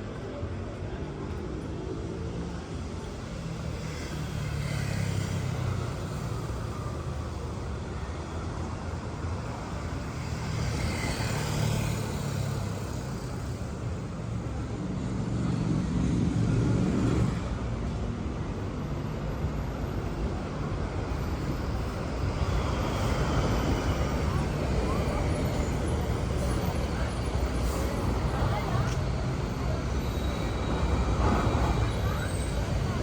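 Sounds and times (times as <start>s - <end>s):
car engines and tyres passing: 0.1s - 33.0s.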